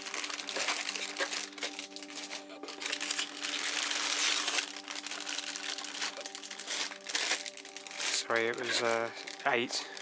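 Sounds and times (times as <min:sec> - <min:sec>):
plastic bags crinkling: 0:00.0 - 0:10.0
soft background music: 0:00.0 - 0:10.0.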